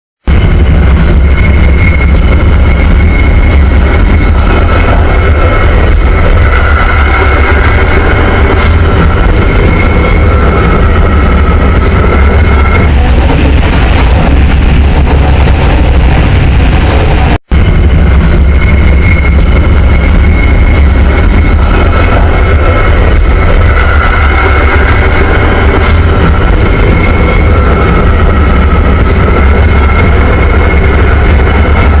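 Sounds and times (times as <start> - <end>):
high-pitched whine: 0.2 - 32.0
train low rumble: 0.2 - 32.0.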